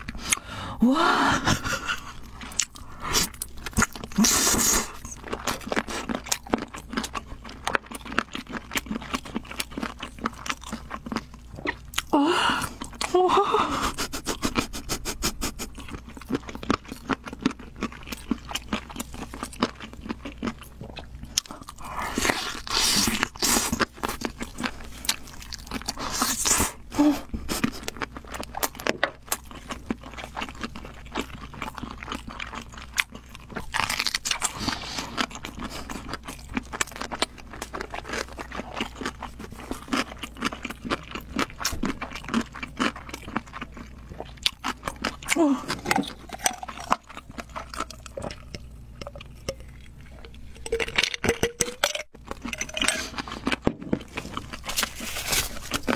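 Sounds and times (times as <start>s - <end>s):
wet chewing mouth sounds: 1.5s - 12.1s, 13.8s - 55.9s.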